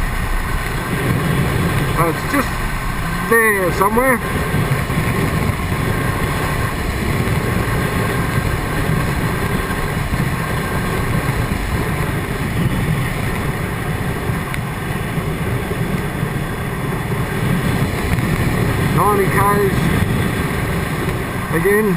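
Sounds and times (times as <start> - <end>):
motorcycle engine running: 0.0 - 21.9
wind buffeting helmet: 0.0 - 21.9.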